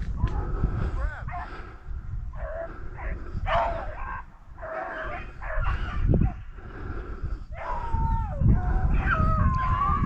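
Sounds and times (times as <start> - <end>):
beagles baying: 0.2 - 6.6, 7.5 - 10.0.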